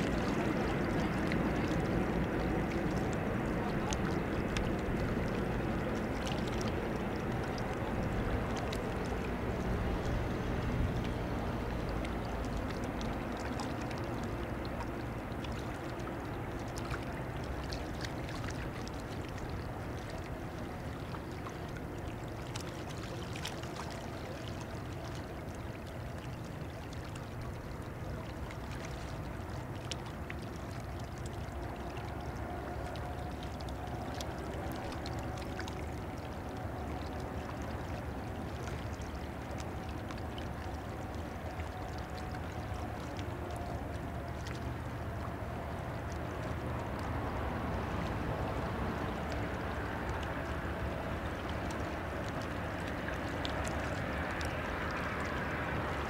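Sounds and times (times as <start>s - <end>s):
small water splashes: 0.0s - 56.0s.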